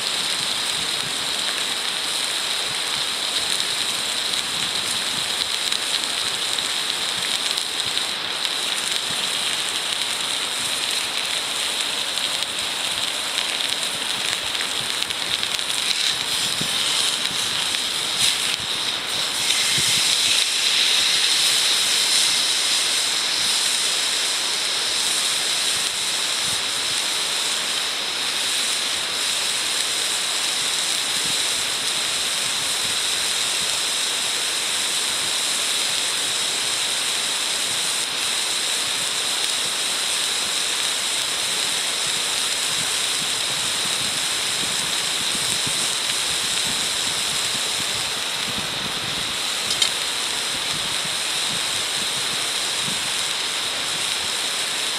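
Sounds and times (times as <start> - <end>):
food sizzling in frying pan: 0.0 - 54.9.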